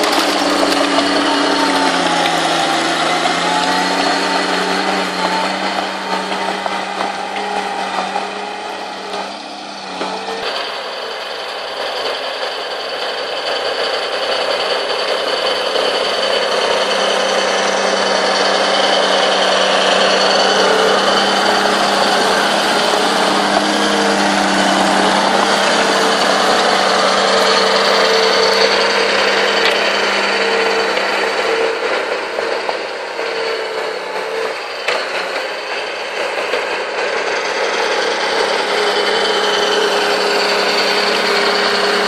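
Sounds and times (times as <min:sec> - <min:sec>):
bulldozer diesel engine under load: 0:00.0 - 0:42.0
high whine: 0:00.0 - 0:42.0.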